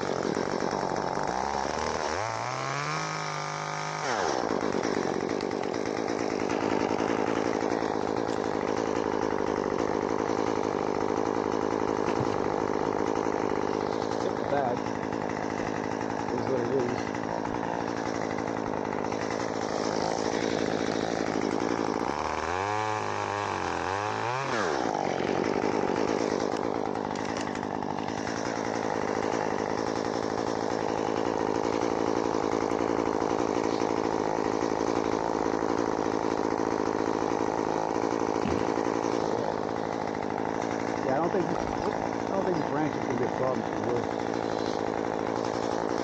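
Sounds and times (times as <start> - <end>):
chainsaw cutting branches: 0.0 - 46.0.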